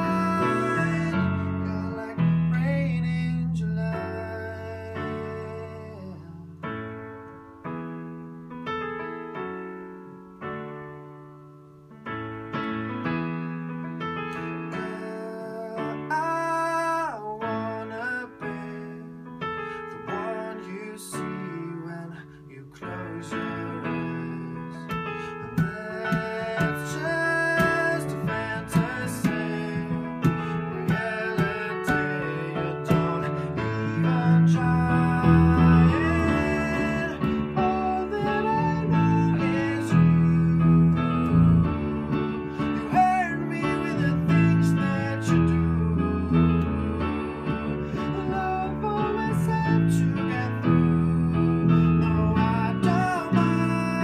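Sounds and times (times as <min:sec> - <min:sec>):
man singing: 0:00.0 - 0:06.7, 0:14.5 - 0:54.0
digital piano: 0:00.0 - 0:54.0.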